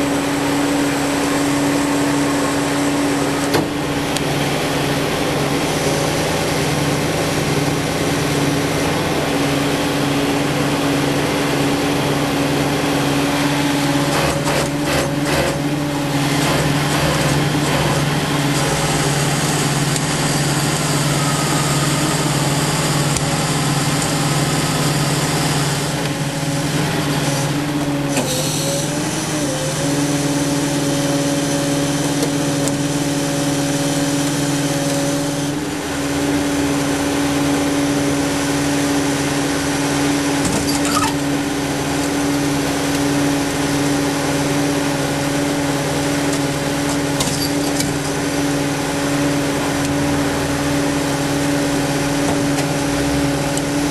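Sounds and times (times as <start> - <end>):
steady whine: 0.0 - 53.9
truck engine running: 0.0 - 53.9.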